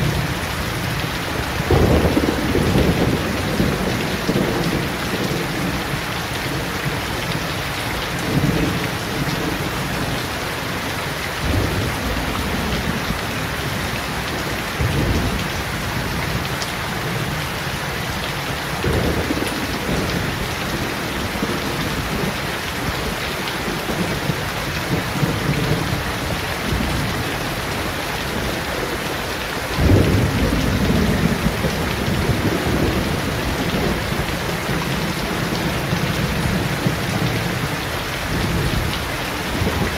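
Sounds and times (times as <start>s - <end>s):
low thunder rumbles: 0.0s - 10.8s, 11.4s - 17.4s, 18.8s - 39.9s
rain on leaves and pavement: 0.0s - 39.9s.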